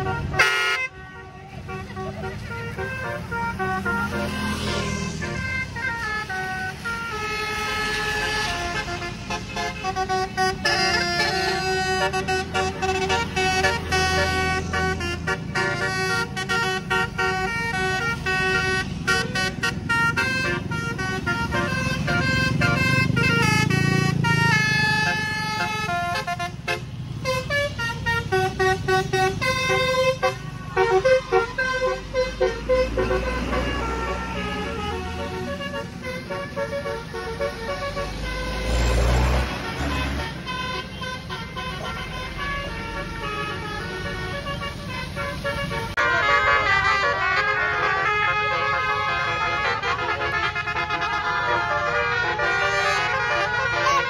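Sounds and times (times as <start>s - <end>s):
low bus engine rumble: 0.0s - 54.0s
multi-trumpet bus horn melody: 0.0s - 54.0s.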